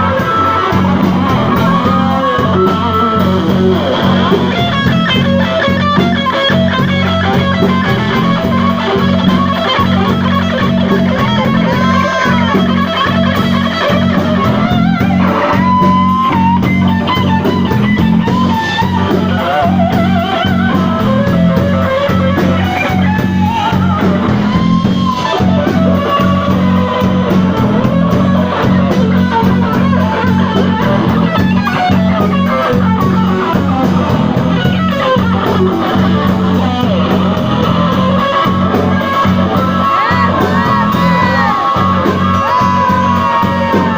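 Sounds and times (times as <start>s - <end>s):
electric guitar bent notes: 0.0s - 43.9s
live blues band: 0.0s - 43.9s.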